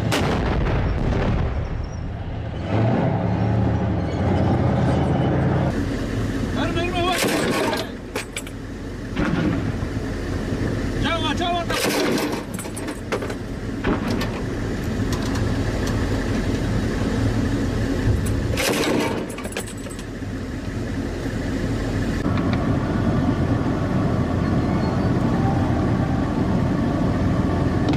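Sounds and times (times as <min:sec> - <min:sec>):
vehicle engine rumbling: 0:00.0 - 0:27.9.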